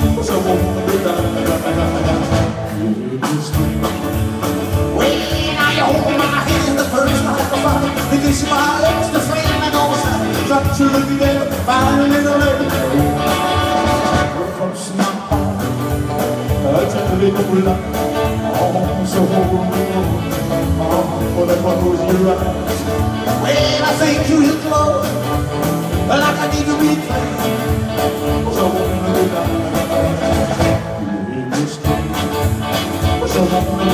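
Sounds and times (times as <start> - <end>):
bass guitar: 0.0 - 33.9
drum kit beat: 0.0 - 33.9
electric guitars: 0.0 - 33.9
man singing: 0.0 - 33.9.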